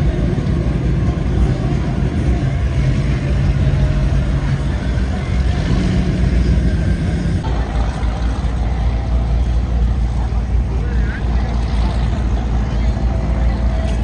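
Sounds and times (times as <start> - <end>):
boat engines running: 0.0 - 14.0.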